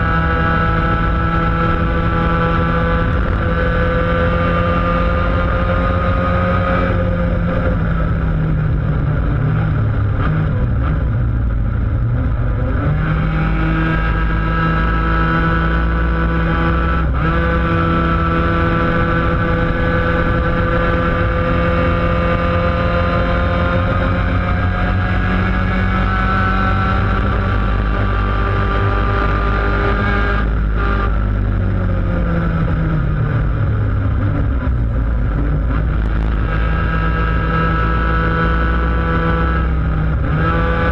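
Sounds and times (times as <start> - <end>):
kart engine running: 0.0 - 40.9.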